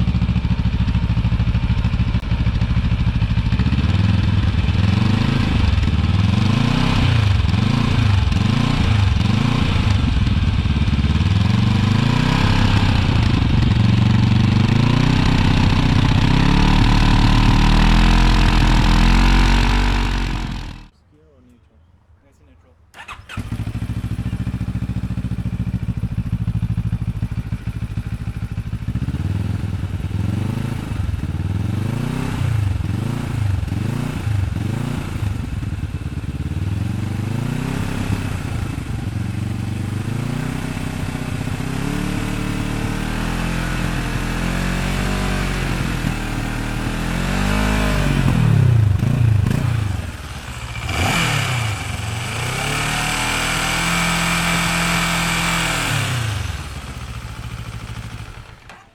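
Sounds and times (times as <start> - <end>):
motorcycle engine idling and revving: 0.0 - 20.9, 23.0 - 58.9.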